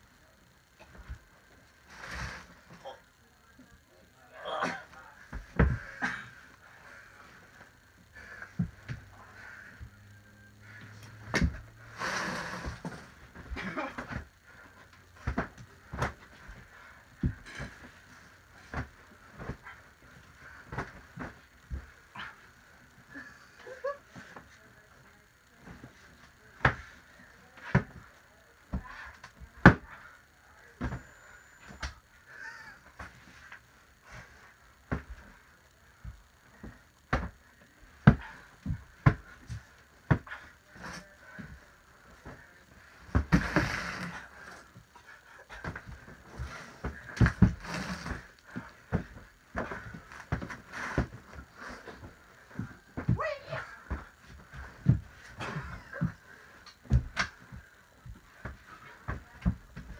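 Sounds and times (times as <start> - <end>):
pillows thumping bodies: 4.5 - 10.0, 10.6 - 22.9, 23.8 - 32.0, 32.8 - 59.9.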